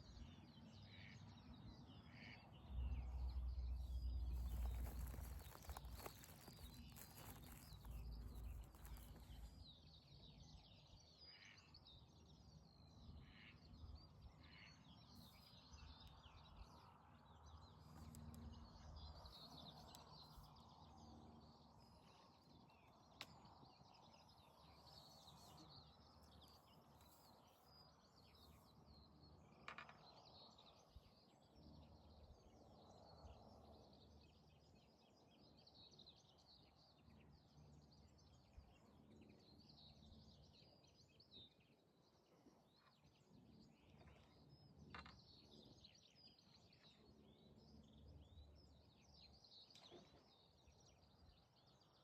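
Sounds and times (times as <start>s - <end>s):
faint birdsong: 0.0s - 52.0s
open-air background noise: 0.0s - 52.0s.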